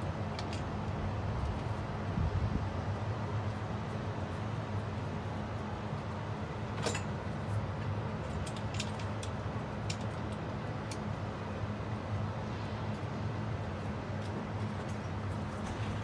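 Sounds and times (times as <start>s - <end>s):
low hum and hiss: 0.0s - 16.0s.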